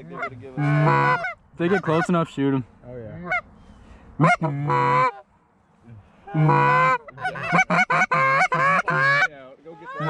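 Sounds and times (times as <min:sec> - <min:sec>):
geese clucking: 0:00.0 - 0:02.3, 0:03.1 - 0:05.3, 0:06.2 - 0:10.0
geese honking: 0:00.0 - 0:02.3, 0:03.1 - 0:05.3, 0:06.2 - 0:10.0.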